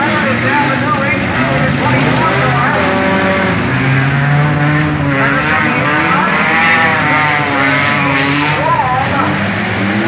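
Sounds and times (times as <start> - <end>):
race car engines revving past: 0.0 - 10.0.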